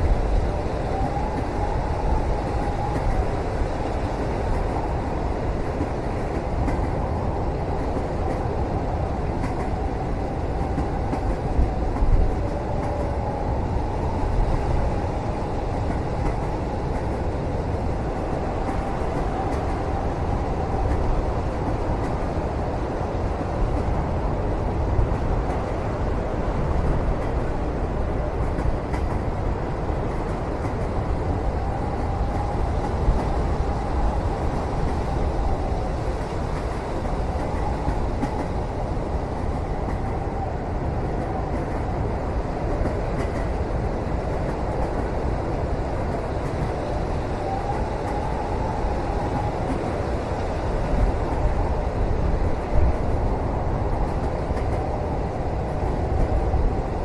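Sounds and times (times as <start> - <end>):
train rumble inside cabin: 0.0 - 57.0.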